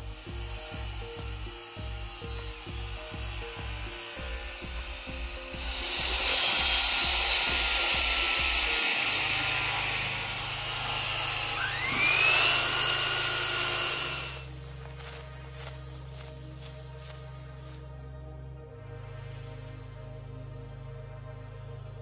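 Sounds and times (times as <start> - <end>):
circular saw cutting wood: 0.0 - 17.9
saw motor whining: 0.0 - 17.9
background music with beat: 0.0 - 22.0.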